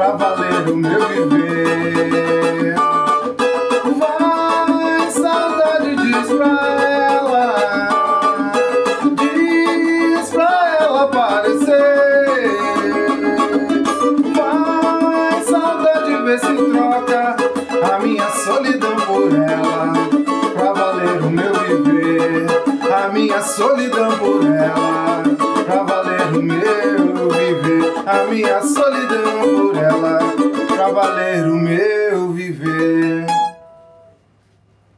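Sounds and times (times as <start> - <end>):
man singing: 0.0 - 33.6
acoustic guitar: 0.0 - 34.9.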